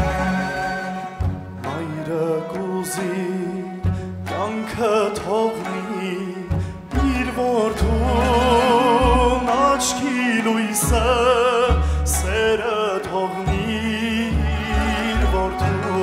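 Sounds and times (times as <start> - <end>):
folk orchestra playing: 0.0 - 16.0
man singing with vibrato: 0.0 - 16.0.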